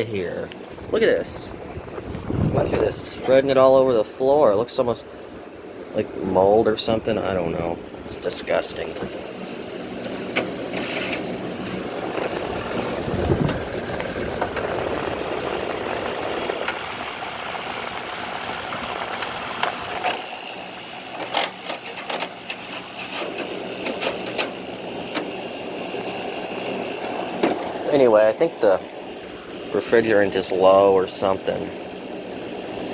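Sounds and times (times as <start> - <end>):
air conditioner humming: 0.0 - 32.9.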